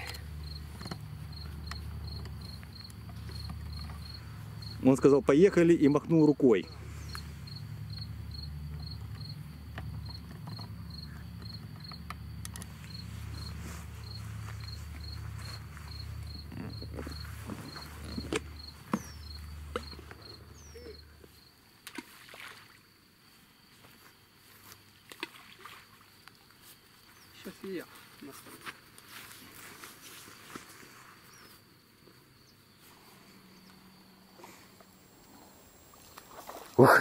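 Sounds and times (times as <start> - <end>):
cricket chirping: 0.0 - 37.0.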